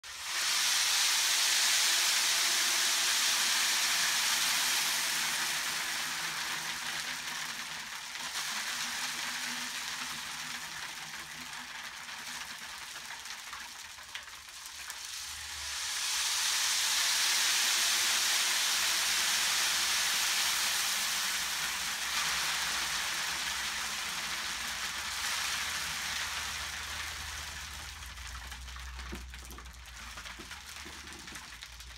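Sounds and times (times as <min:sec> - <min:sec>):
rain stick beads pattering: 0:00.1 - 0:31.9.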